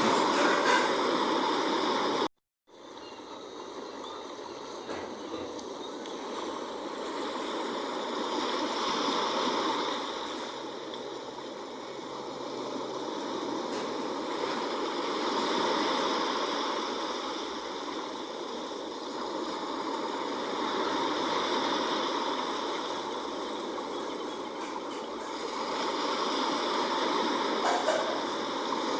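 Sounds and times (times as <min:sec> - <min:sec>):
sea waves washing on shore: 0:00.0 - 0:28.9.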